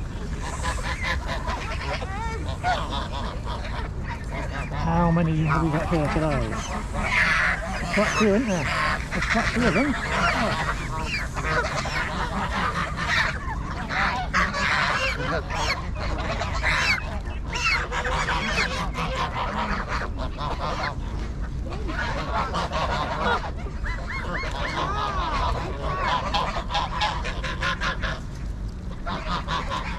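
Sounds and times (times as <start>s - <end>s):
geese honking: 0.0s - 29.9s.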